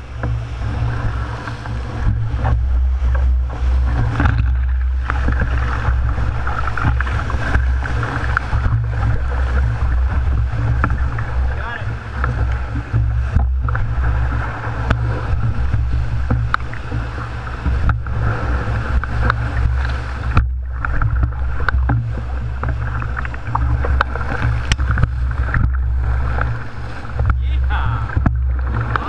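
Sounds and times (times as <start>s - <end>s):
waves slapping against hull: 0.0s - 29.0s
whitewater rapid roaring: 0.0s - 29.0s.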